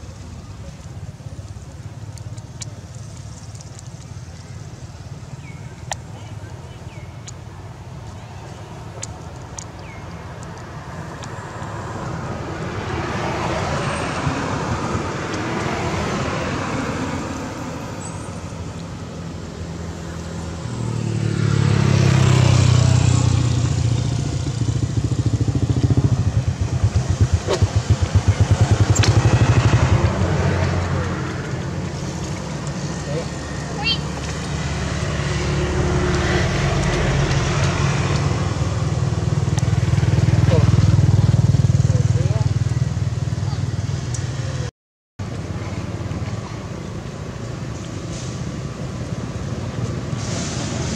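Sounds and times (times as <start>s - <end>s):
vehicle engines passing: 0.0s - 50.9s.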